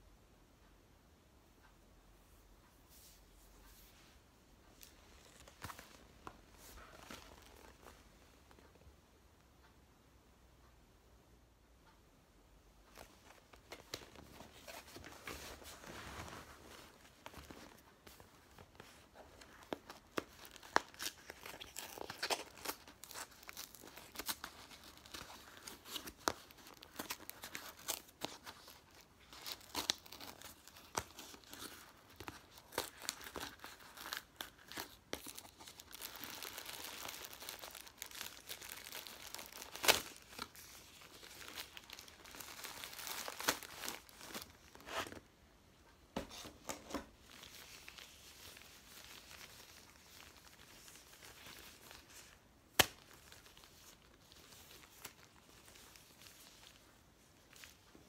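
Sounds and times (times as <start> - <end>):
gloves crackling and rustling: 2.9 - 8.9, 12.8 - 58.0.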